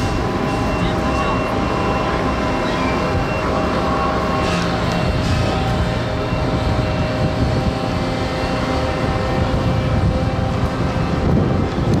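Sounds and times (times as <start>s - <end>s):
heavy machinery humming: 0.0s - 12.0s.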